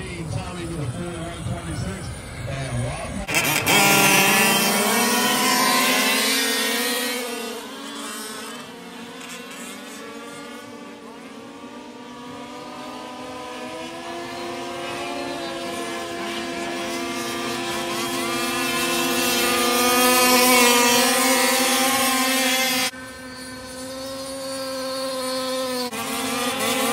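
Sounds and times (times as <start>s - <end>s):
rc truck engines buzzing: 0.0s - 26.9s.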